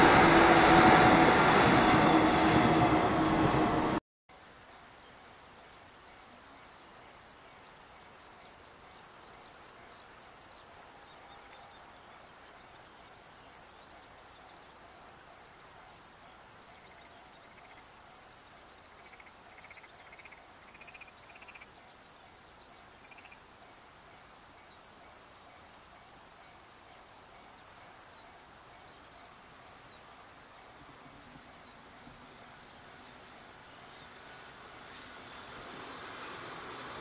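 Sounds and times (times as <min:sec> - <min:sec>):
low steady hiss: 0:04.3 - 0:37.0.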